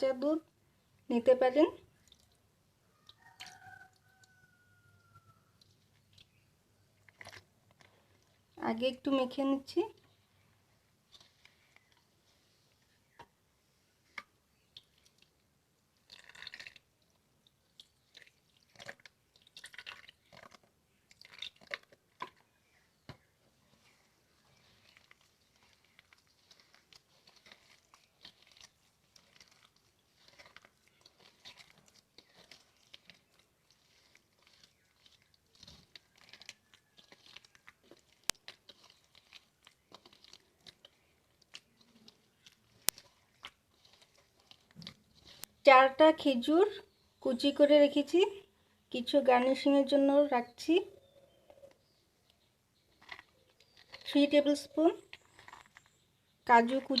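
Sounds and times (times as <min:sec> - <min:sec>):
hands squelching wet dough: 0:00.0 - 0:57.0.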